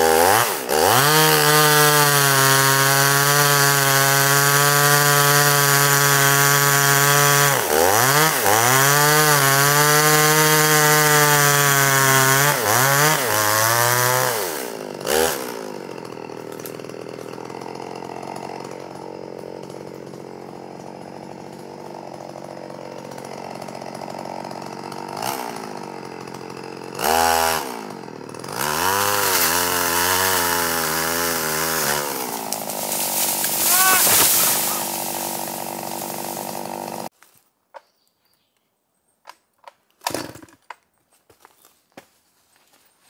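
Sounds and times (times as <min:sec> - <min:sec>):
chainsaw running: 0:00.0 - 0:37.2, 0:40.0 - 0:40.7.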